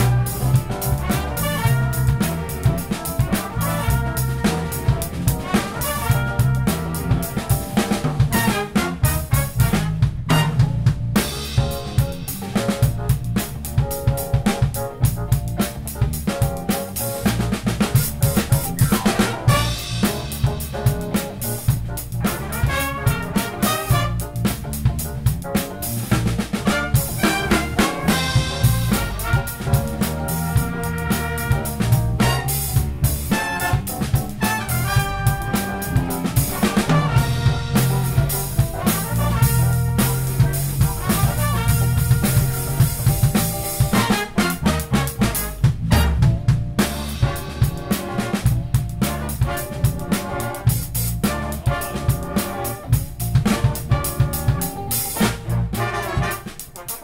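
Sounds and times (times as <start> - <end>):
big band playing funk: 0.0 - 57.0
drum kit groove: 0.0 - 57.0
electric bass: 0.0 - 57.0
horn section chords: 0.0 - 57.0.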